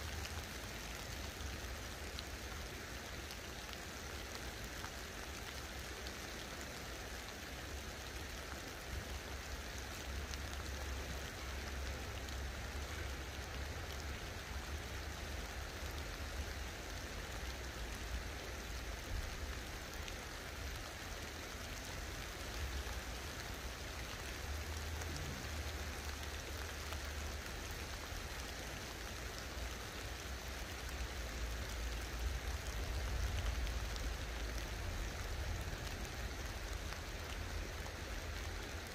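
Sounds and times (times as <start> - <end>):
light rain hissing: 0.0 - 38.9.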